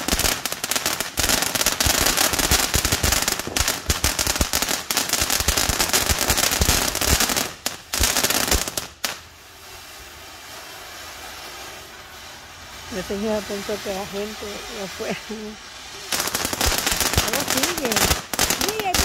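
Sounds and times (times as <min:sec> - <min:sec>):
firework fountain crackling hiss: 0:00.0 - 0:19.0.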